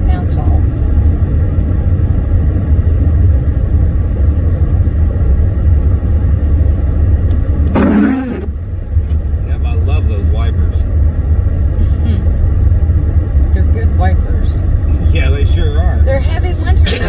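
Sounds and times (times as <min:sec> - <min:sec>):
car engine and tyre noise: 0:00.0 - 0:17.0.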